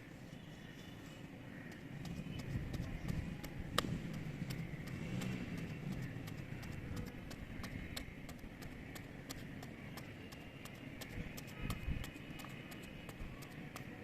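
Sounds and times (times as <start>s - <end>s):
tractor engine running: 2.0s - 13.9s.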